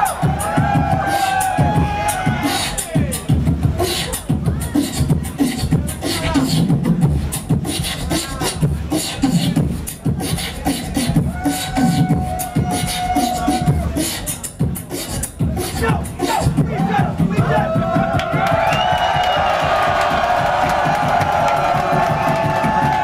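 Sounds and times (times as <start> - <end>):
person beatboxing: 0.0 - 19.1.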